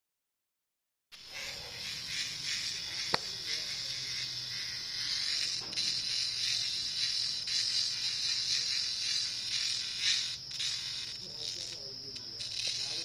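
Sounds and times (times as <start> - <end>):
cicadas buzzing: 1.2 - 13.0.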